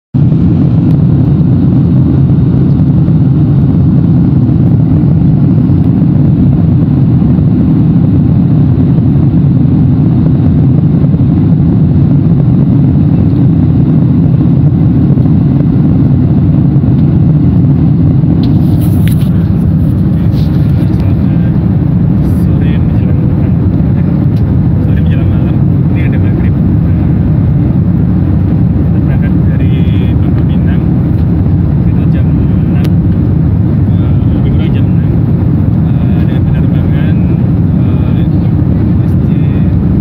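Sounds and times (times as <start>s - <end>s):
jet airliner cabin drone: 0.2s - 40.0s.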